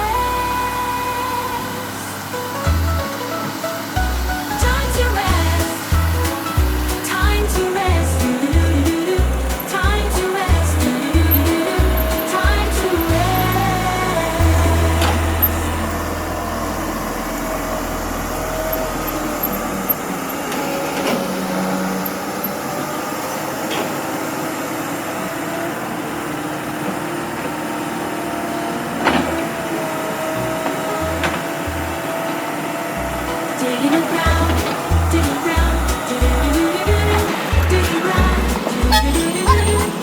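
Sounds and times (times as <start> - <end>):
heavy machine engine running: 0.0 - 40.0.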